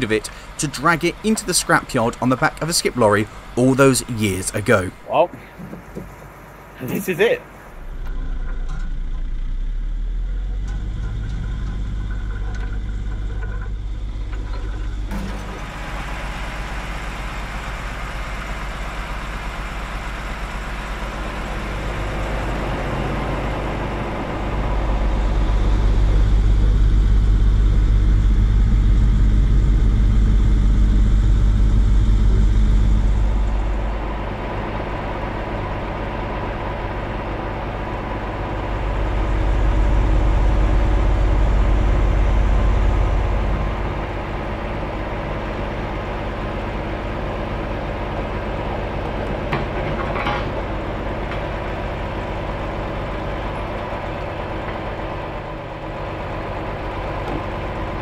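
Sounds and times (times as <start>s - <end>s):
diesel crane engine running: 0.0s - 58.0s.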